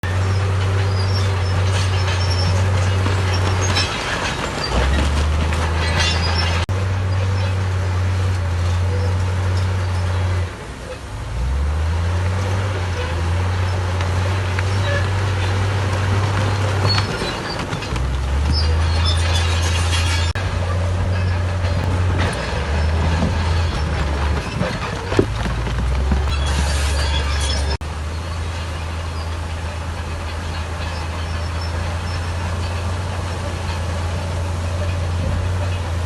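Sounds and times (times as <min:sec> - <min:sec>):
heavy diesel machinery running: 0:00.0 - 0:36.0.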